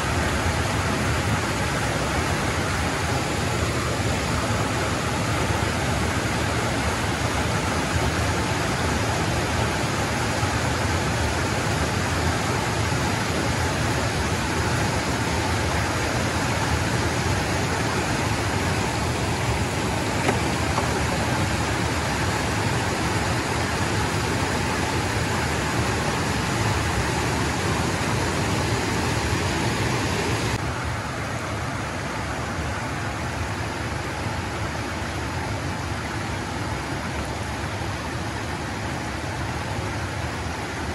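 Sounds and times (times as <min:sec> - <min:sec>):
water rushing over a weir: 0:00.0 - 0:40.9.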